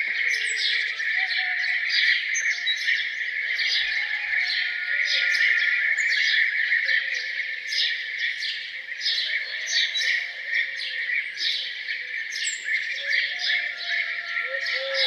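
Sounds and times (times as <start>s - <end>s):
chorus of songbirds: 0.0s - 15.0s.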